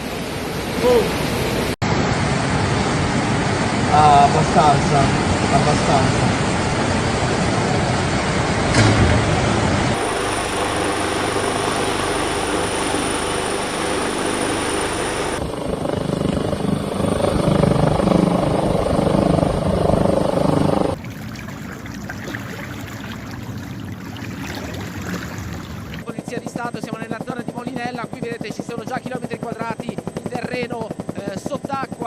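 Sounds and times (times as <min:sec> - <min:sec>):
helicopter rotor and engine: 0:00.0 - 0:32.0.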